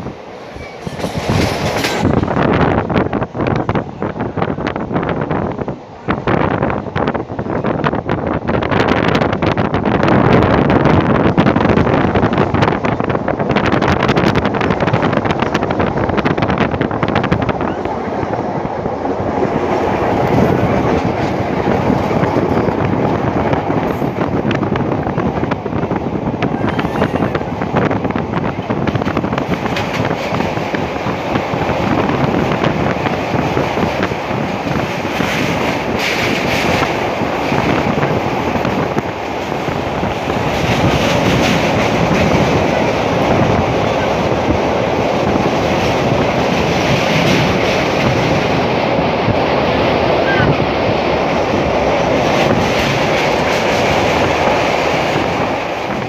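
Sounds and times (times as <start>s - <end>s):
train wheels rattling on rails: 0.0s - 56.0s.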